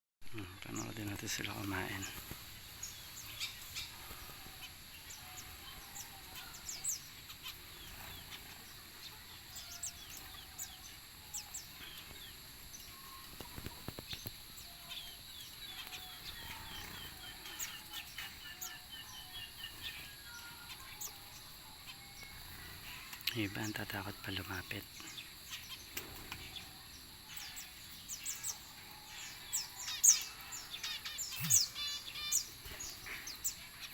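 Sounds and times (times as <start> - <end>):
birds chirping: 0.2 - 33.9
soft low bird calls: 0.3 - 33.9.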